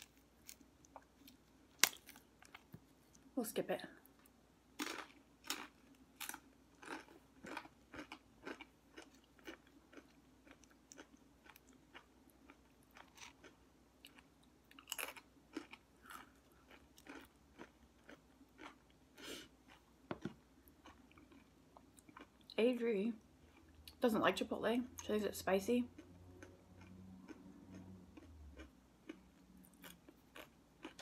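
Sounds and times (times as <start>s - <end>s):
person chewing crunchy food: 0.0s - 3.3s, 4.8s - 22.5s, 26.0s - 31.0s.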